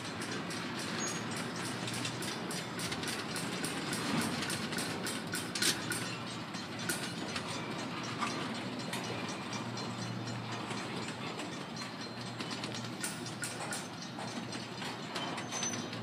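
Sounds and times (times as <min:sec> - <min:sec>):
freight train wheels rattling: 0:00.0 - 0:16.0.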